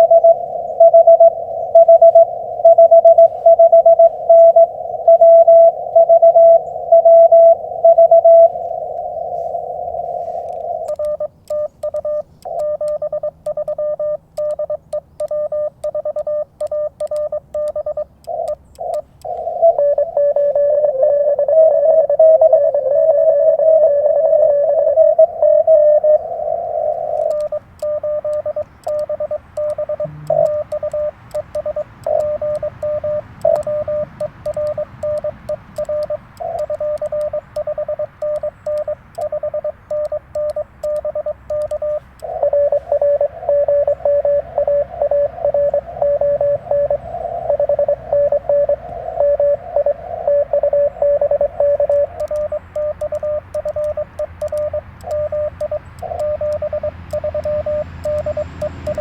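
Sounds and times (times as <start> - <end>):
radio band hiss: 0.0 - 13.1, 17.8 - 59.0
louder radio tone: 0.0 - 59.0
morse code tone: 0.0 - 59.0.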